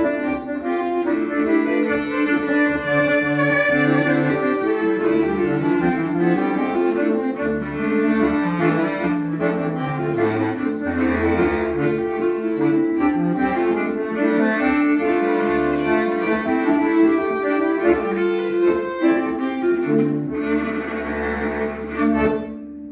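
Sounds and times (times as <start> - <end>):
accordion: 0.0 - 22.9
bass clarinet: 0.0 - 22.9
bowed string held notes: 0.0 - 22.9.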